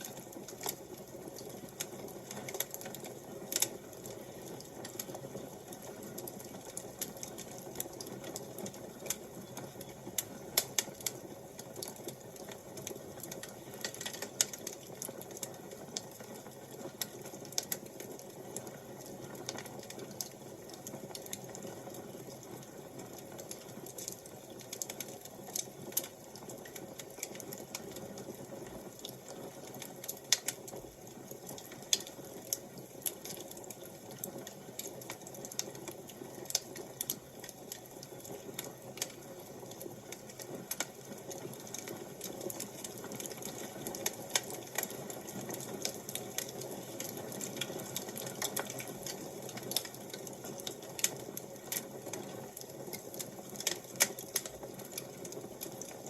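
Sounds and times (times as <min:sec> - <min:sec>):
wood fire popping: 0:00.0 - 0:56.0.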